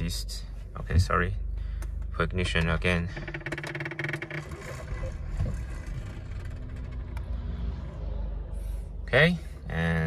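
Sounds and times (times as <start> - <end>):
car engine starting and idling: 0.0 - 9.8.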